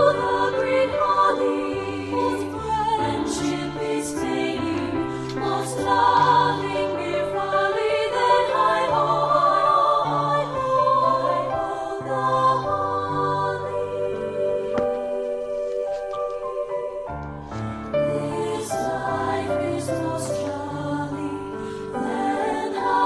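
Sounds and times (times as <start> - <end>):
choir singing in harmony: 0.0 - 23.0.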